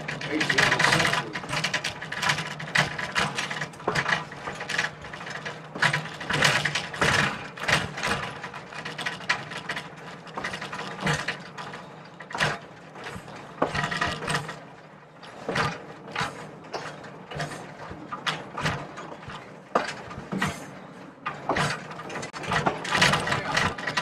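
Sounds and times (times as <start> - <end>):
train wheels clacking and rattling: 0.0 - 24.0.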